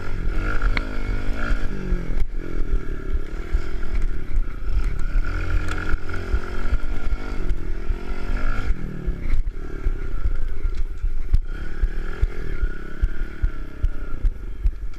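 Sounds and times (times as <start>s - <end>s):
motorbike engine revving: 0.0s - 14.9s
low thumps: 1.6s - 14.9s.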